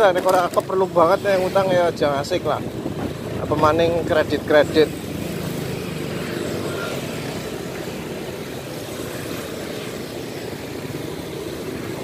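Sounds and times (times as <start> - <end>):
road and wind noise: 0.0 - 12.0
motorcycle engine running: 0.4 - 12.0.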